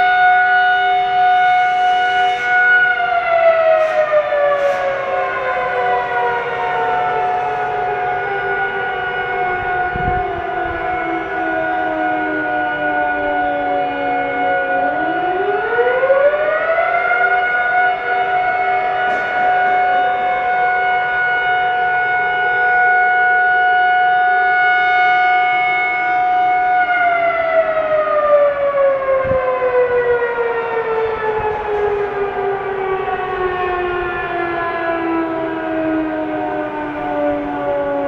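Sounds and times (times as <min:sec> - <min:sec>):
air-raid sirens wailing: 0:00.0 - 0:38.0.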